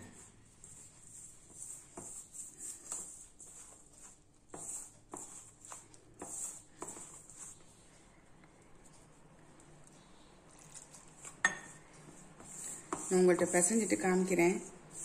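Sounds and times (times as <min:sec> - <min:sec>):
hand mixing dough in metal bowl: 0:00.0 - 0:08.1, 0:10.0 - 0:15.0.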